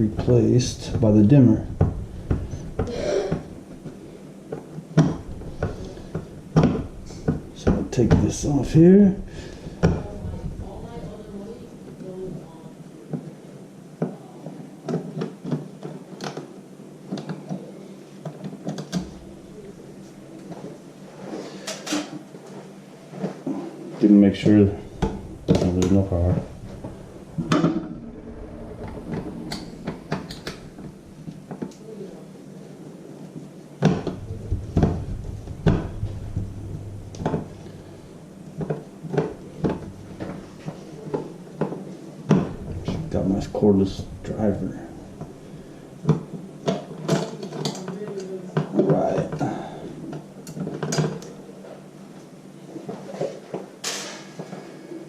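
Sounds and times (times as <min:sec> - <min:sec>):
low steady hum: 0:00.0 - 0:53.7.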